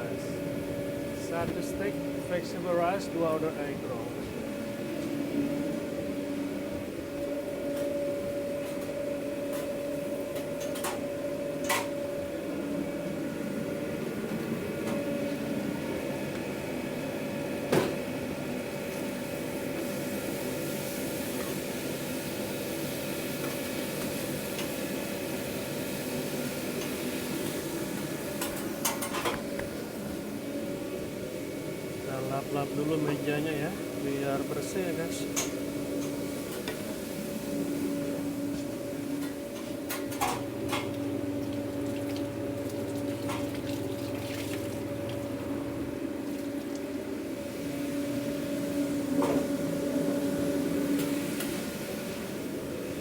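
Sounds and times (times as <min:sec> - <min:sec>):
kitchen equipment humming: 0:00.0 - 0:53.0.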